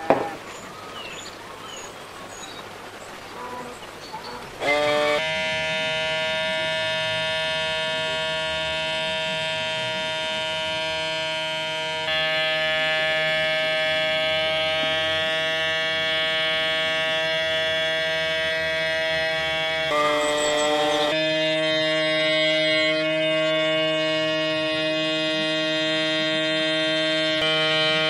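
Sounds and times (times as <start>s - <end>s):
small electric motors whining: 4.6s - 28.0s.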